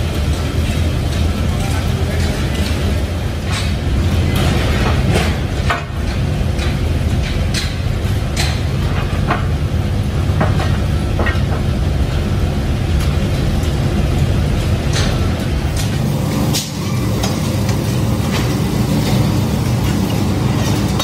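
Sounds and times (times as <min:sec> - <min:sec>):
machinery low rumble: 0:00.0 - 0:21.0.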